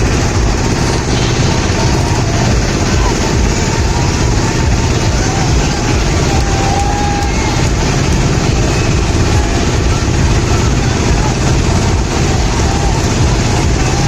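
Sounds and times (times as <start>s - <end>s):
dense wash of noise: 0.0s - 14.0s
heavy engine running: 0.0s - 14.0s.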